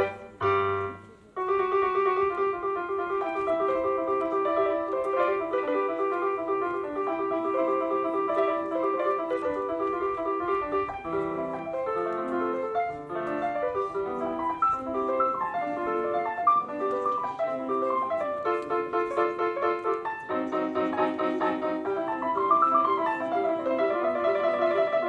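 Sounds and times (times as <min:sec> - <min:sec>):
electronic keyboard piano piece: 0:00.0 - 0:25.0.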